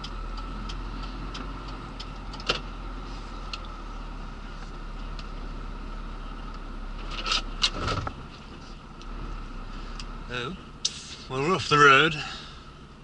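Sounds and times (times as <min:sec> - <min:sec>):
truck engine and road hum: 0:00.0 - 0:13.0.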